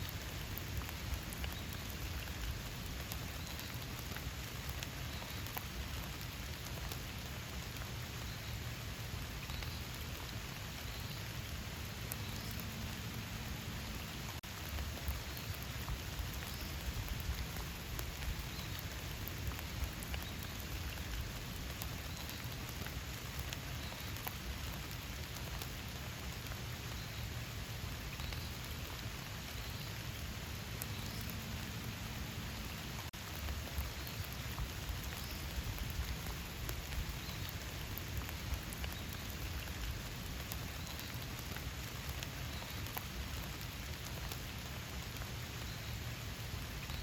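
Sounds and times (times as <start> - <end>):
rain falling in forest: 0.0 - 47.0.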